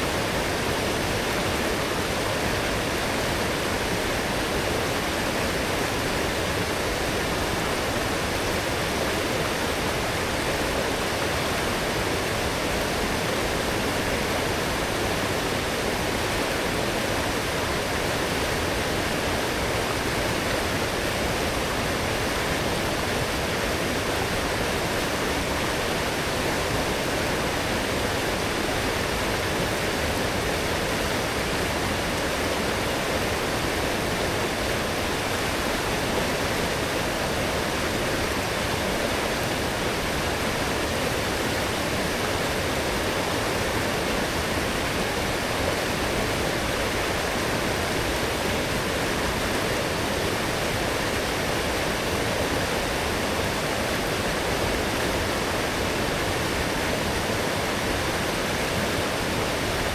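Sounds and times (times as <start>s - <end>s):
fast-flowing stream rushing: 0.0s - 59.9s.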